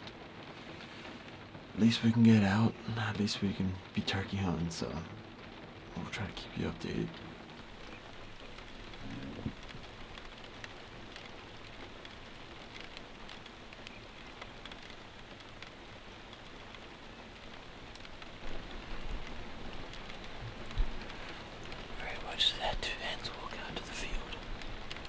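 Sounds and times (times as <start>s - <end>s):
rain falling: 0.0s - 25.0s
raindrops ticking: 0.0s - 25.0s.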